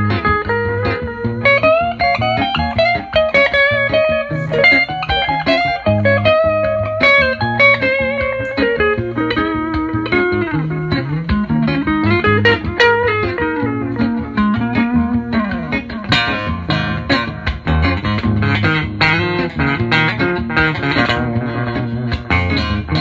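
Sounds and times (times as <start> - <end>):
bass line: 0.0 - 23.0
electric guitar melody: 0.0 - 23.0.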